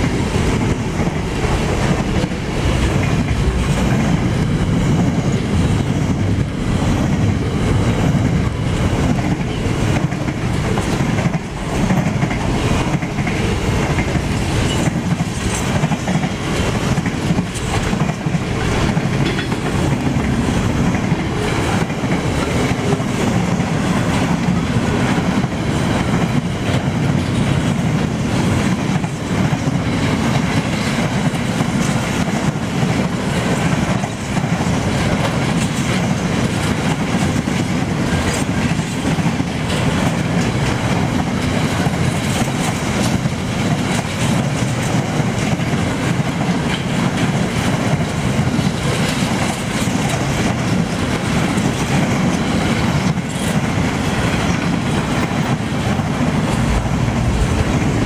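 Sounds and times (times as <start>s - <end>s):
freight train wheels rumbling: 0.0s - 58.0s
wheels clicking over rail joints: 0.0s - 58.0s.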